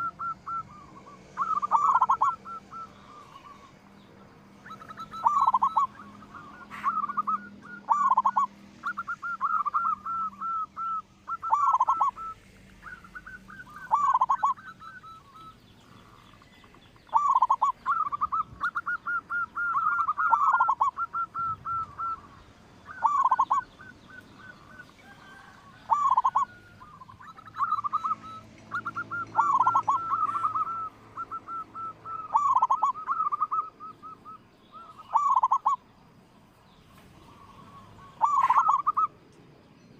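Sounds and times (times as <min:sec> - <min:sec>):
dove cooing: 0:00.0 - 0:35.8, 0:37.0 - 0:39.2.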